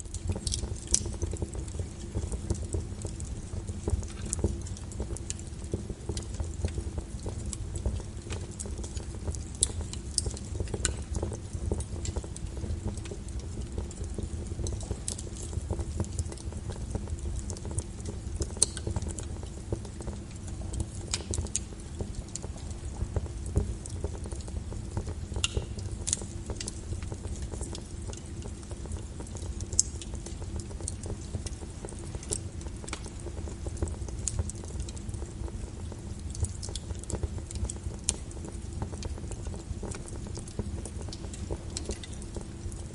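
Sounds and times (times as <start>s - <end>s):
fire rumbling: 0.0s - 42.9s
logs crackling and popping: 0.0s - 42.9s.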